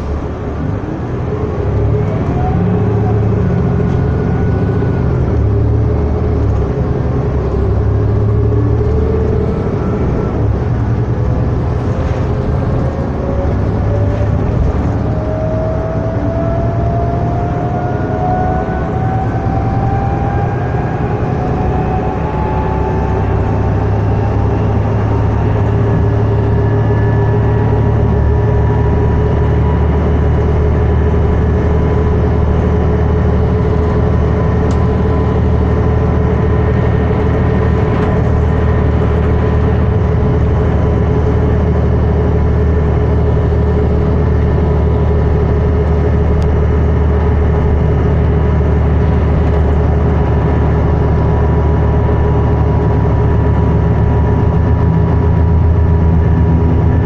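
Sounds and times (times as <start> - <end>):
bus diesel engine running: 0.0 - 57.0
steady whine: 0.0 - 57.0
tyre and road noise: 0.0 - 57.0.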